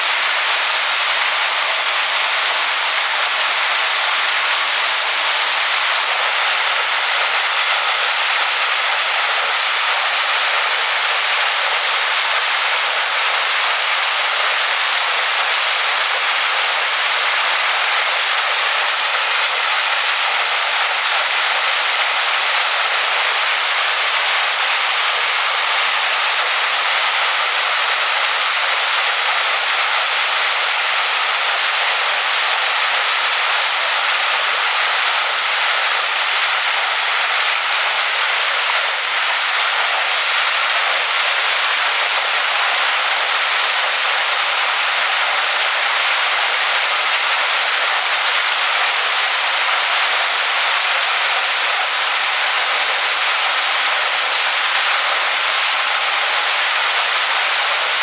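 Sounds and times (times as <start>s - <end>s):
waterfall splashing onto stones: 0.0s - 58.0s.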